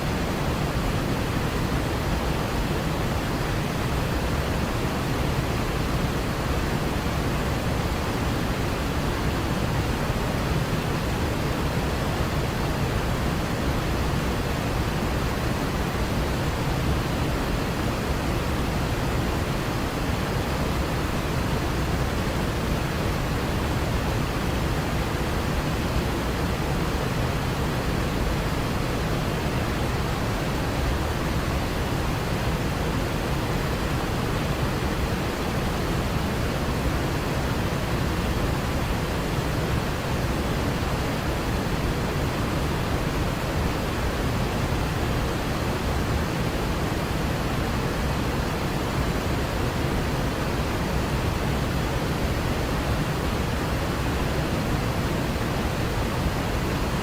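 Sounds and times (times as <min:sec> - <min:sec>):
waterfall rushing: 0:00.1 - 0:57.0.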